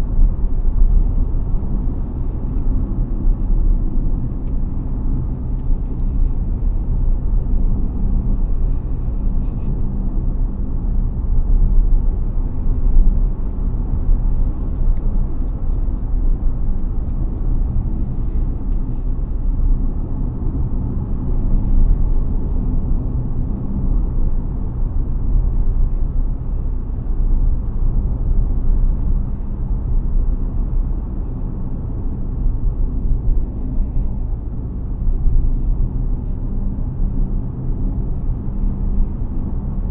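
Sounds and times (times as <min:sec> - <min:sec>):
road and drivetrain rumble: 0:00.0 - 0:39.9.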